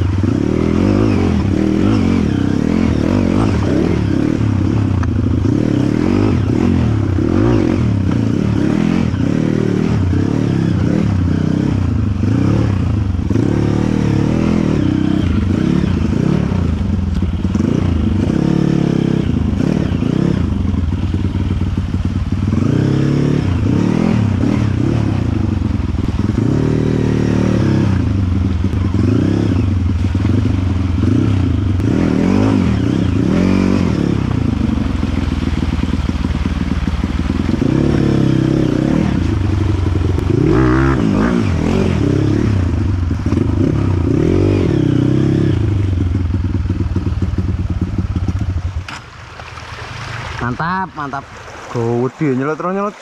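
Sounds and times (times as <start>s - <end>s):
dirt bike engine revving: 0.0s - 48.6s.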